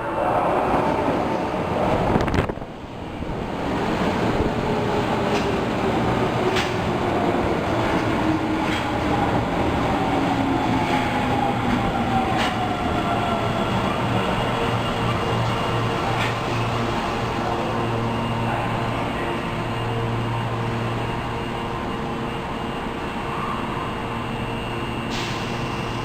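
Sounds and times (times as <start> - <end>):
subway train motor whine: 0.0 - 26.0.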